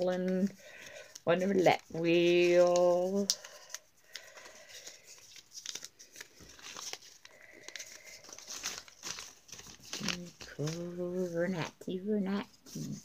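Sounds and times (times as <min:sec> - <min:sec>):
paper folding and crinkling: 0:00.0 - 0:13.0.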